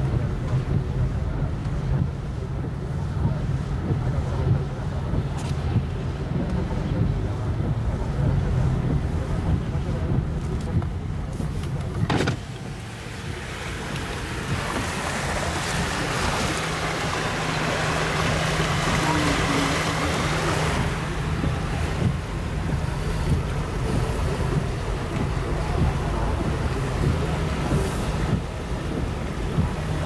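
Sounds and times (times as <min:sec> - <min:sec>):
low engine hum: 0:00.0 - 0:30.0
vehicle rushing through floodwater: 0:00.0 - 0:30.0.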